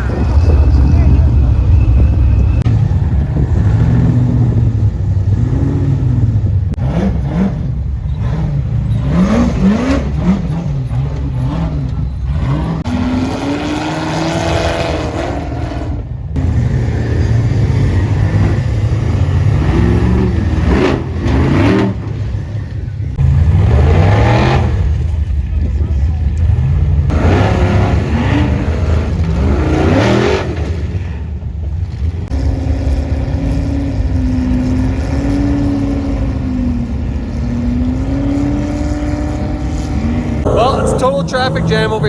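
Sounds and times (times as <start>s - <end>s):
buggy engines revving: 0.0s - 42.0s.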